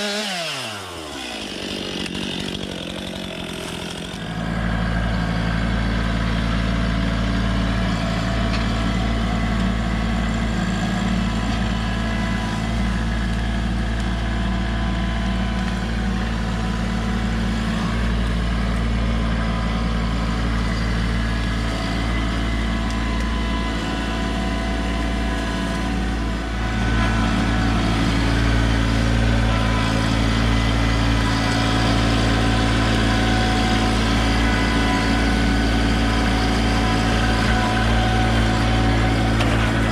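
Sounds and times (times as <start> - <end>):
tractor diesel engine running: 0.8 - 39.9.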